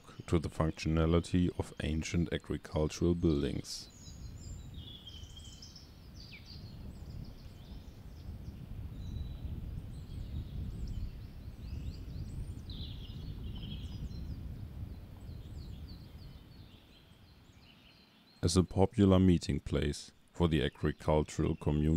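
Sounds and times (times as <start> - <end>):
birds chirping and singing: 0.2 - 18.7.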